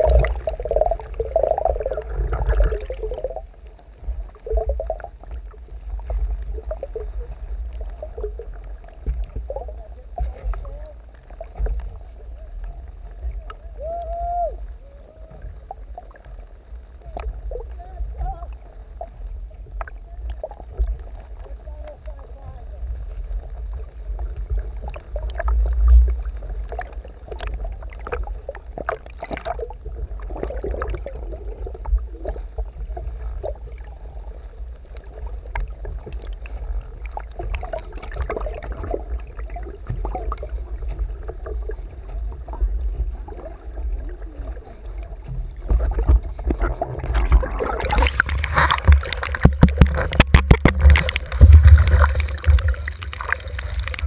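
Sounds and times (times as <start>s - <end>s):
low rumble of water buffeting: 0.0s - 54.0s
water sloshing and gurgling: 0.0s - 54.0s.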